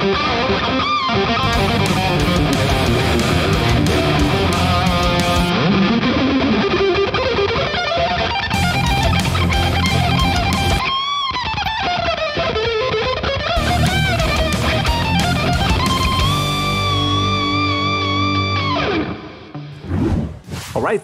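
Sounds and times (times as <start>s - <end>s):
distorted electric guitar rhythm: 0.0s - 19.3s
lead guitar line: 0.0s - 19.7s.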